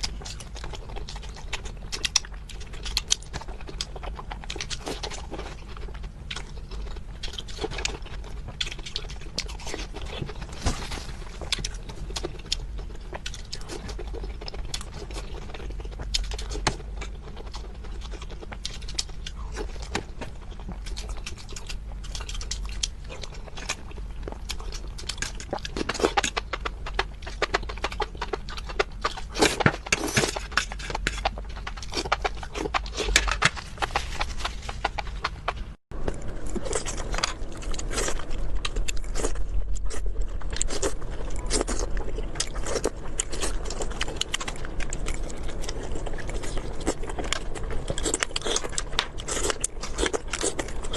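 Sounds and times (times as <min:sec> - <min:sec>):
close-miked chewing: 0:00.0 - 0:50.9.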